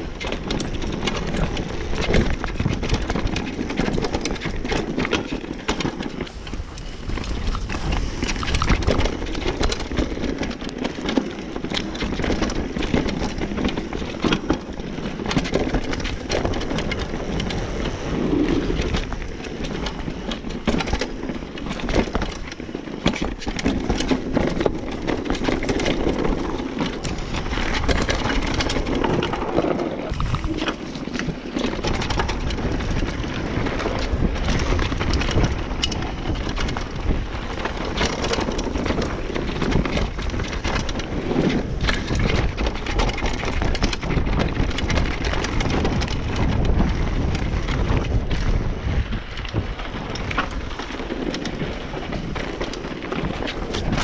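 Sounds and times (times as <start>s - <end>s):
bike clattering and rattling: 0.0s - 54.0s
tyres rolling over dirt: 0.0s - 54.0s
wind rushing over microphone: 0.0s - 54.0s.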